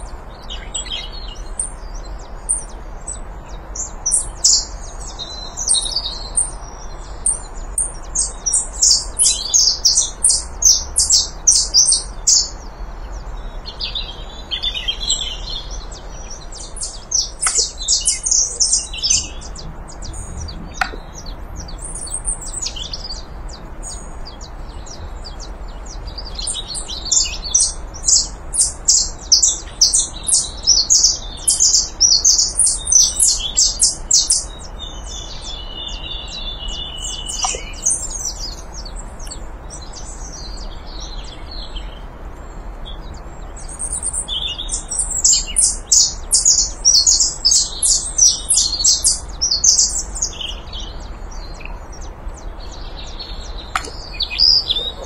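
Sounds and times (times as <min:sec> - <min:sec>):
finch singing high chirps: 0:00.0 - 0:55.0.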